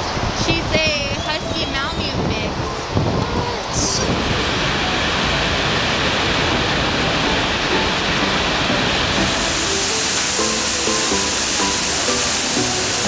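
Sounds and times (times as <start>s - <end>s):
faint music: 0.0s - 13.0s
waterfall roaring: 0.0s - 13.0s.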